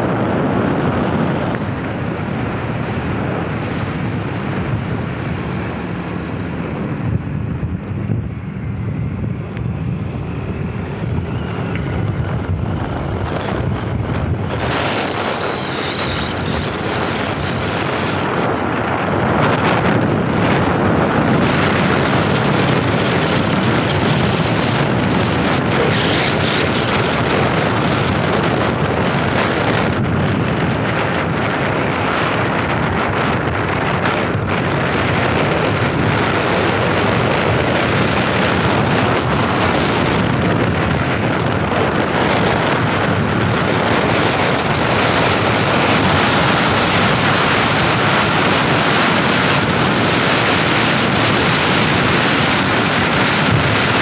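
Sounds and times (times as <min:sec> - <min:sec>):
road and engine noise: 0:00.0 - 0:54.0
wind rushing over microphone: 0:00.0 - 0:54.0.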